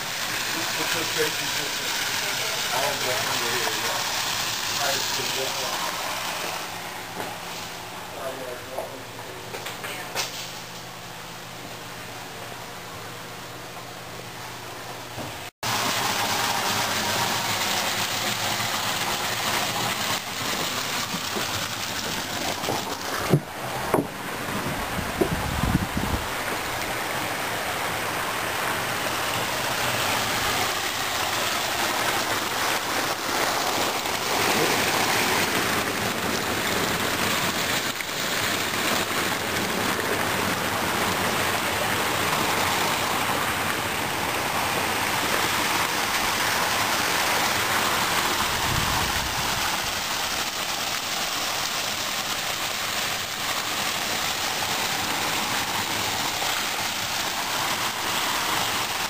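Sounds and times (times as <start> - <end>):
fountain water splashing into pond: 0.0 - 7.7, 15.6 - 59.0.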